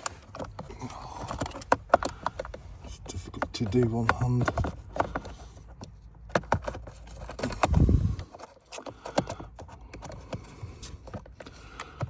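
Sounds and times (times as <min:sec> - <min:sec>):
plastic parts clicking and knocking: 0:00.0 - 0:12.0.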